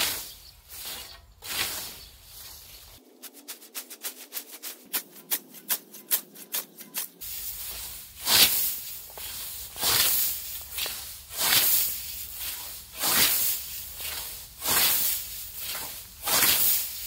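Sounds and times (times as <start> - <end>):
scythe swishing through grass: 0.0 - 17.0.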